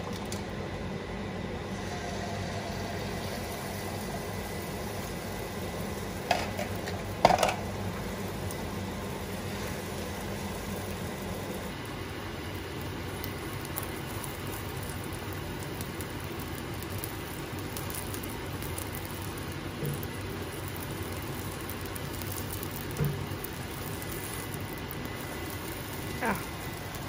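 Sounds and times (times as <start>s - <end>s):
food sizzling in oil: 1.6s - 27.0s.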